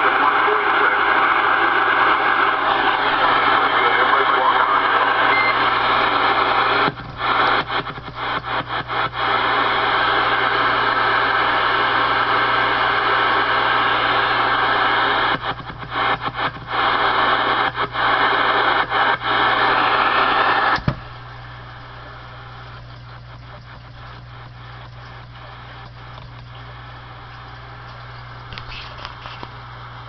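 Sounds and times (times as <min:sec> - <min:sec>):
radio click: 0:00.0 - 0:29.9
radio static hiss: 0:00.0 - 0:30.0.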